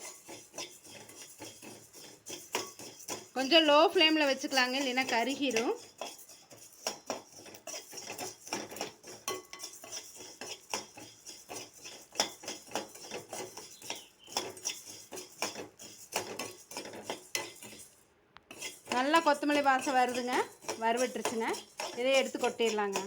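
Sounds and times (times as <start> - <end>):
seeds rattling in a pan: 0.0 - 23.0
spatula scraping a pan: 0.0 - 23.0.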